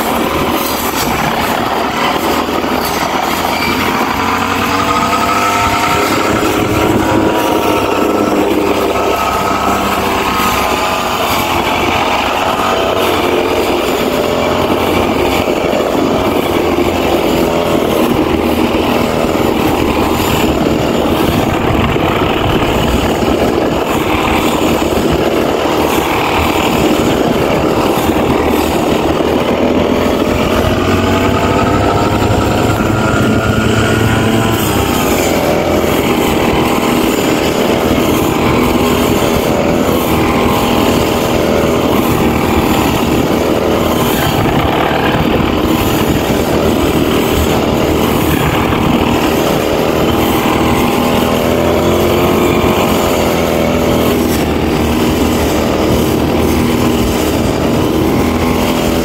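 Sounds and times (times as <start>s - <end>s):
brush cutter engine cutting grass: 0.0s - 59.0s.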